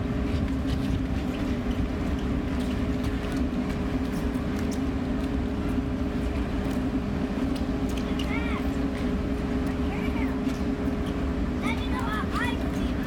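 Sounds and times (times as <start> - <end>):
low machinery rumble and drone: 0.0 - 13.0.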